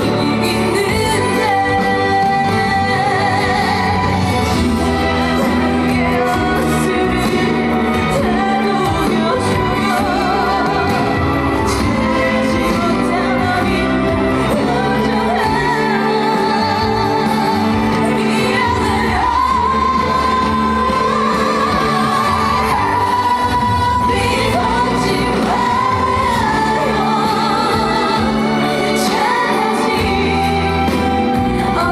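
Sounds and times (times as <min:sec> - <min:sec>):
musical accompaniment: 0:00.0 - 0:31.9
woman singing: 0:00.0 - 0:31.9.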